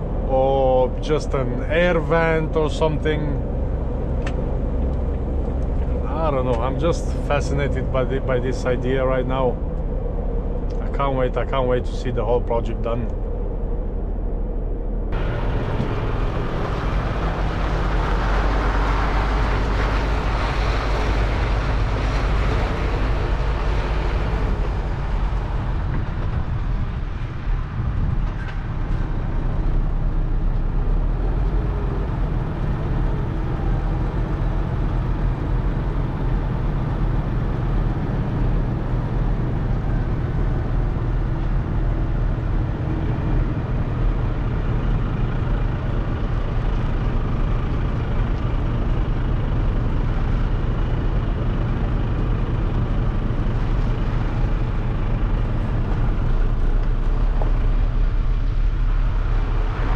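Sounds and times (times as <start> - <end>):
lorry diesel engine running: 0.0 - 59.9.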